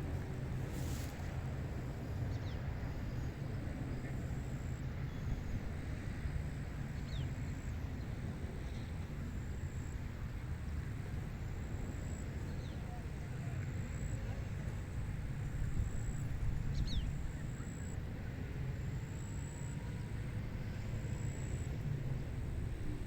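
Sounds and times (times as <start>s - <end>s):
wind rumble and hiss: 0.0s - 23.0s.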